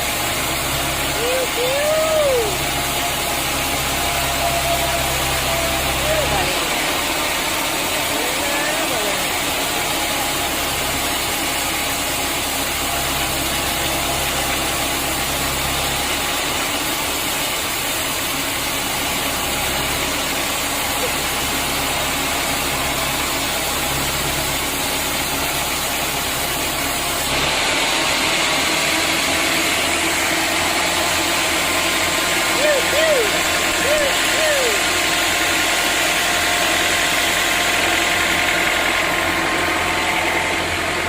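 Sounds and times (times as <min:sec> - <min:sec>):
sawmill machinery running: 0:00.0 - 0:41.0.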